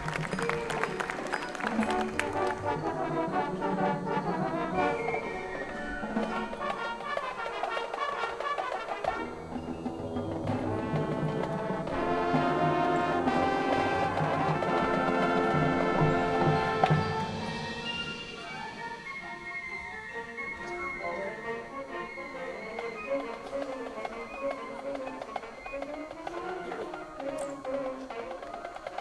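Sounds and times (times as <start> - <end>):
marching band playing: 0.0 - 29.0.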